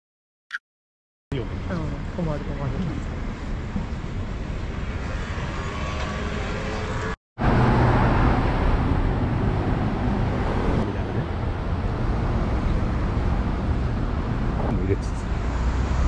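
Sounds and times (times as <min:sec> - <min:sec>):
city road traffic: 0:01.3 - 0:16.0.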